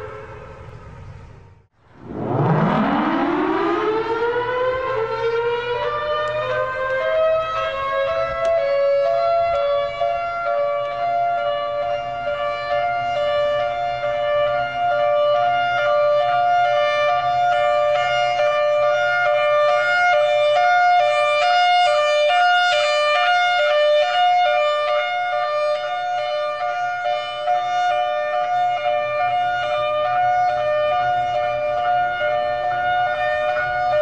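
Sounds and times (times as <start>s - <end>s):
two-tone warning siren: 0.0s - 34.0s.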